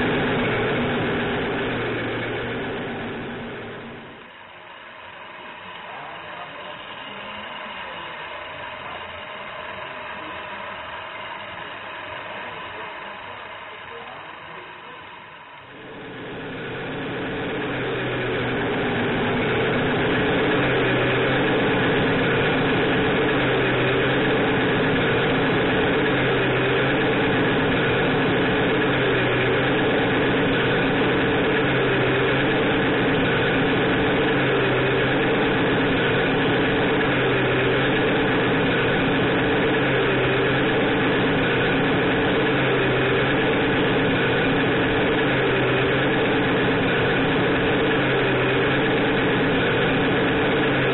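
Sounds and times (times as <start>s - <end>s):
diesel engine sound from small speaker: 0.0s - 50.9s.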